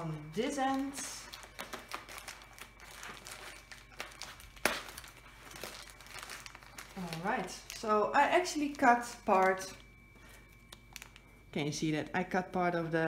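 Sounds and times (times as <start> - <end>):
plastic mailer crinkling: 0.0 - 12.1.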